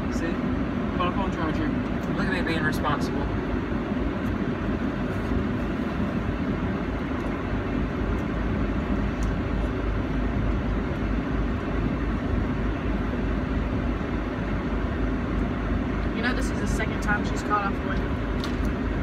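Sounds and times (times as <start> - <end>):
vehicle driving rumble: 0.0 - 19.0.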